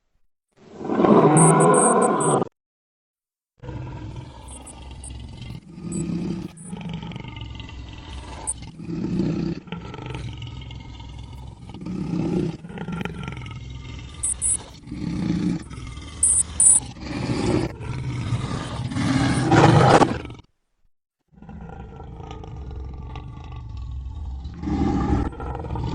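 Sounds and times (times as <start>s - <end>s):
reversed lion roars: 3.6s - 20.5s, 21.3s - 25.9s.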